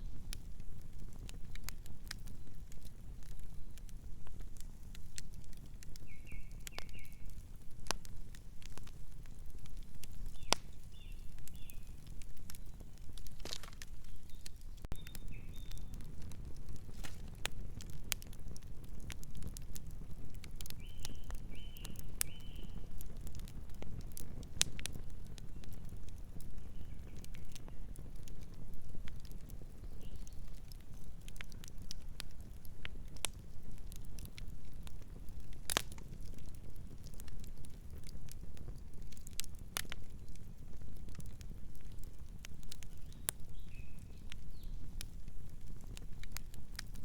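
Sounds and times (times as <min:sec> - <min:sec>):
campfire crackling and popping: 0:00.0 - 0:47.0
low rumble of flame: 0:00.0 - 0:47.0.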